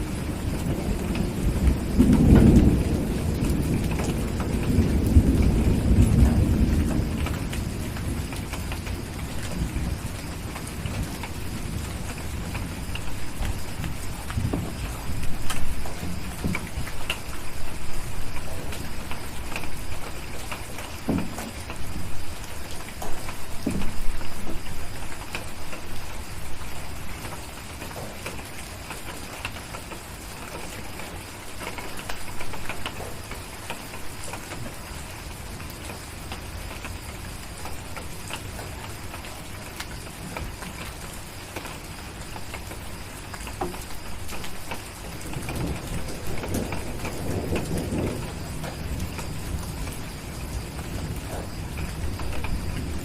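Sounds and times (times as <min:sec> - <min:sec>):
distant thunder rumble: 0:00.0 - 0:40.8, 0:41.8 - 0:53.0
steady rain: 0:00.0 - 0:53.0.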